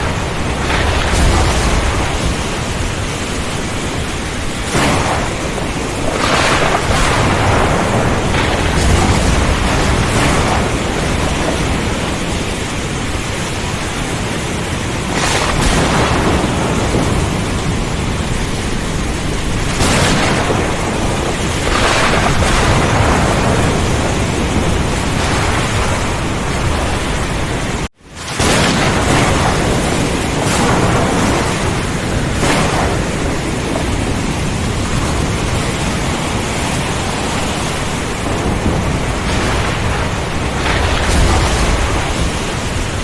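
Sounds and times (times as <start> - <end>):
deep rumble of thunder: 0.0 - 43.0
heavy rain rushing: 0.0 - 43.0.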